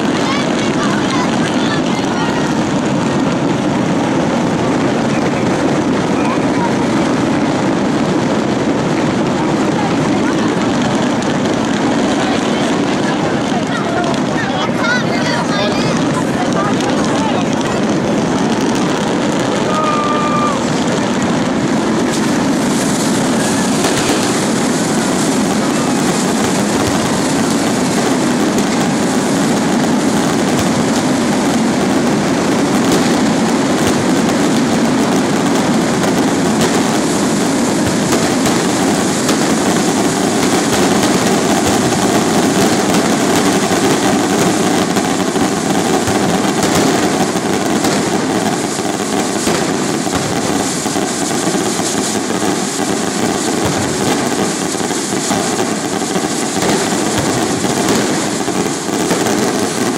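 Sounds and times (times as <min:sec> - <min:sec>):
fireworks crackle: 0:00.0 - 0:59.9
fireworks rockets launching: 0:00.0 - 0:59.9.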